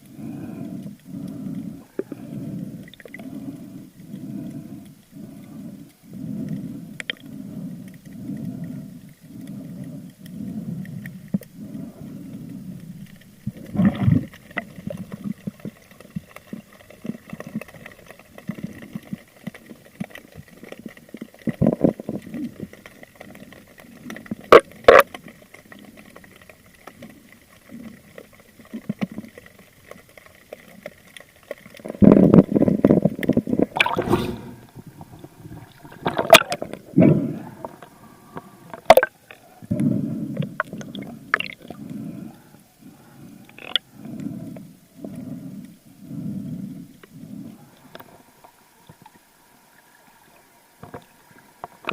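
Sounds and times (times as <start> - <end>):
underwater sloshing and gurgling: 0.0 - 51.9.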